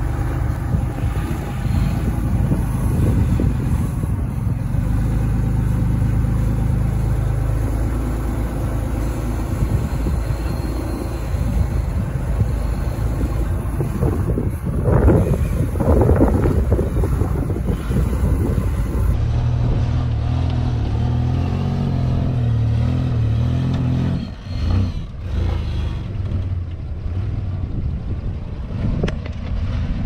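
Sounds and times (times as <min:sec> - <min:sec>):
off-road vehicle engine running: 0:00.0 - 0:30.0.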